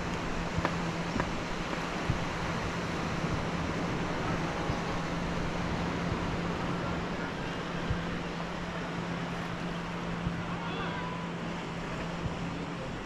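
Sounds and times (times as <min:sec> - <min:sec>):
constant low hum: 0:00.0 - 0:13.0
small waves washing onto sand: 0:00.0 - 0:13.0.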